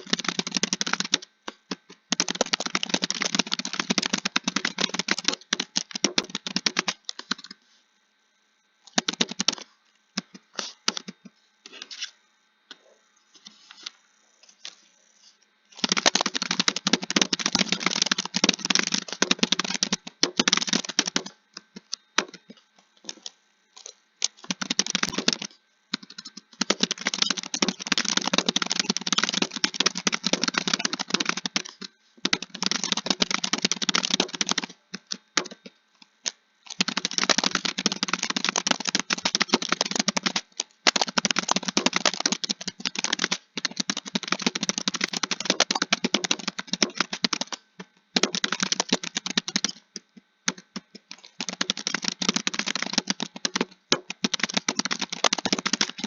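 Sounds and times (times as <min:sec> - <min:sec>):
rapid keyboard typing: 0:00.0 - 0:07.6, 0:08.8 - 0:11.3, 0:15.7 - 0:56.0.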